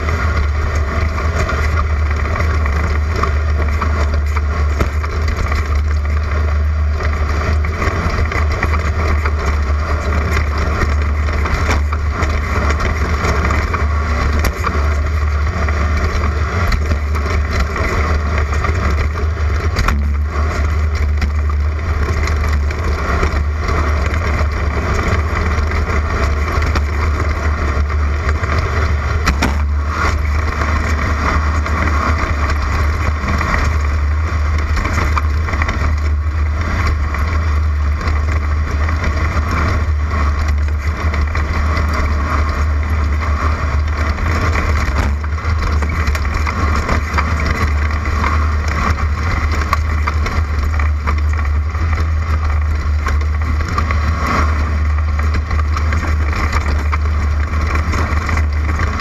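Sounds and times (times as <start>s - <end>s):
car knocking and rattling: 0.0s - 59.0s
deep engine drone: 0.0s - 59.0s.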